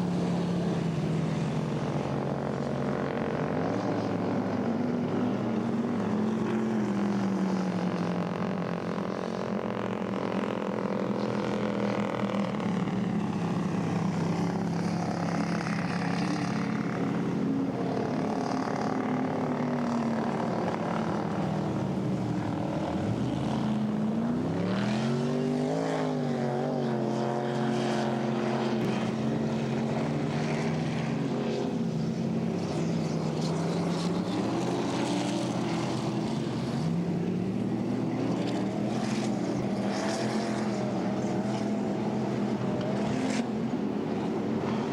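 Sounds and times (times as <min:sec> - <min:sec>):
racing boat engines droning: 0:00.0 - 0:44.9.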